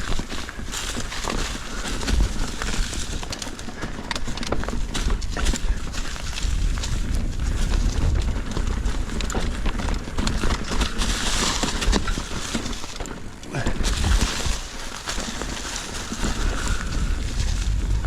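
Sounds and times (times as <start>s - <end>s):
low rumble and rushing: 0.0s - 12.8s, 13.5s - 18.0s
bike rattling over rocks: 0.0s - 18.0s.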